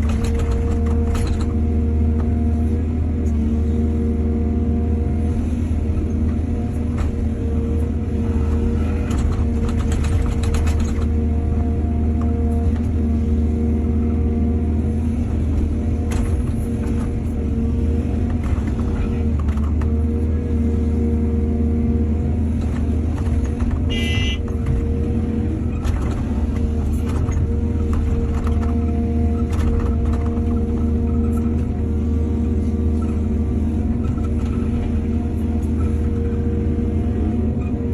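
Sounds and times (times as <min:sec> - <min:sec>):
excavator diesel engine: 0:00.0 - 0:37.9.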